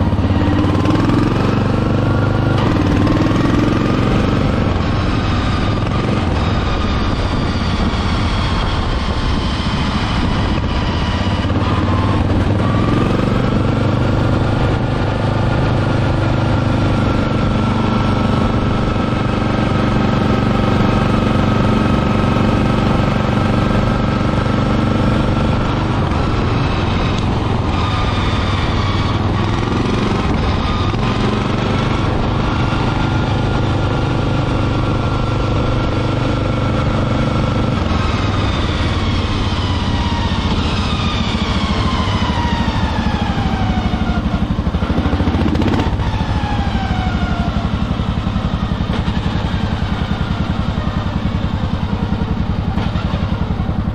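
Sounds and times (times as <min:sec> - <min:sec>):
riding mower engine running: 0:00.0 - 0:53.9.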